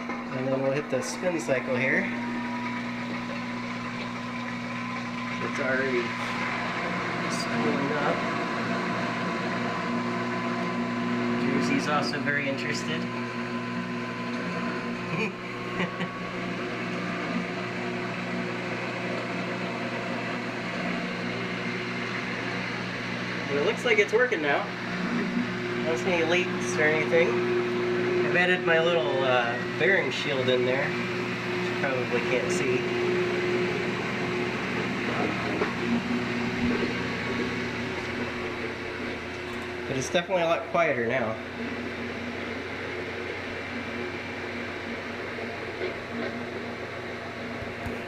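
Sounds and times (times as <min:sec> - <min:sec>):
washing machine spinning: 0:00.0 - 0:48.0.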